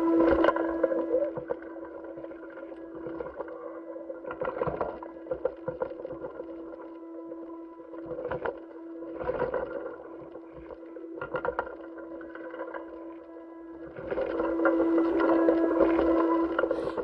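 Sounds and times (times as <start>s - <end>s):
crackles and clicks: 0.0s - 17.0s
steady hum: 0.0s - 17.0s.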